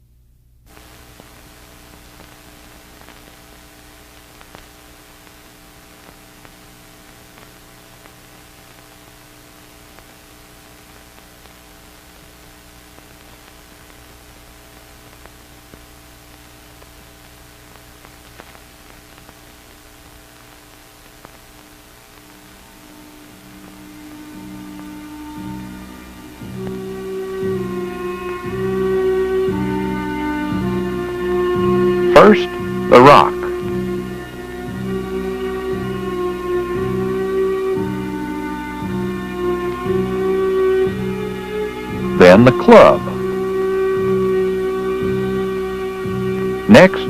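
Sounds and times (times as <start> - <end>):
low electrical hum: 0.0 - 47.0
steady hiss: 0.7 - 47.0.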